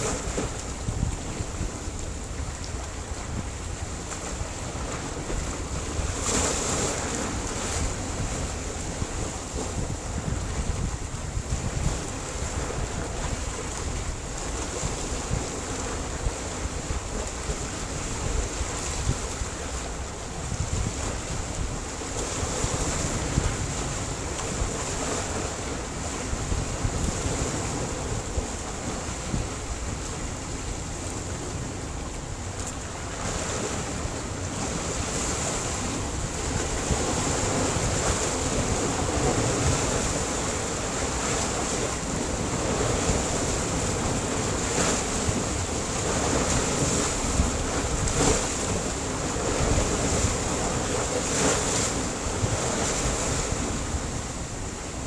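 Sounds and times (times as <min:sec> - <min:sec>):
surf breaking on rocky shore: 0:00.0 - 0:55.0.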